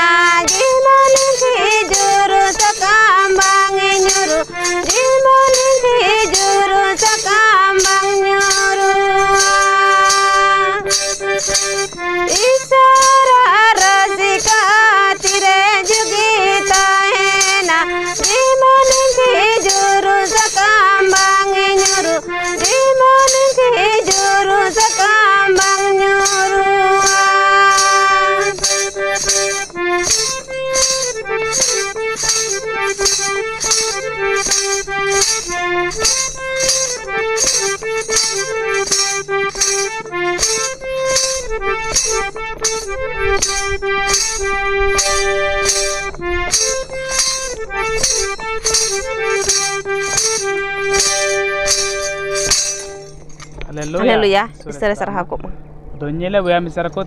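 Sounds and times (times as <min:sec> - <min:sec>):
shaker and tambourine beat: 0:00.0 - 0:54.6
harmonium melody: 0:00.0 - 0:57.0.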